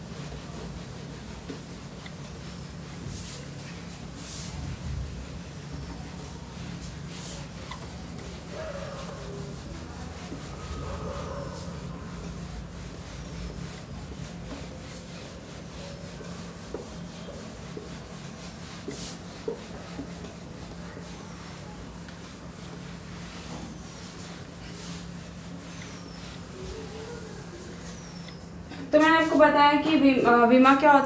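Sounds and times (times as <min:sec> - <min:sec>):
steady low hum: 0:00.0 - 0:28.8
duster rubbing on whiteboard: 0:00.0 - 0:31.0.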